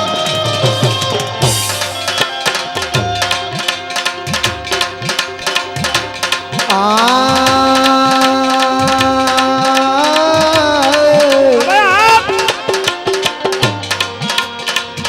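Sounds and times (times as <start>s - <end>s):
tabla playing: 0.0s - 15.0s.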